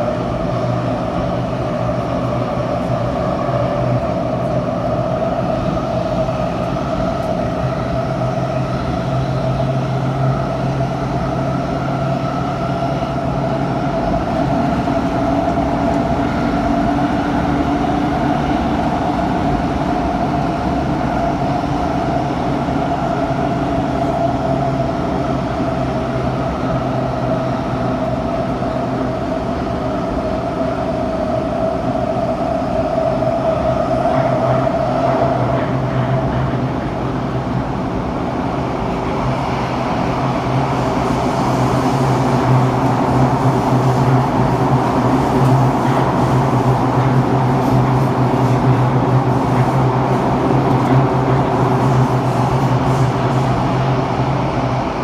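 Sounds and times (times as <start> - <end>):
metro train whine: 0.0 - 55.0
wheel on rail pounding rumble: 0.0 - 55.0.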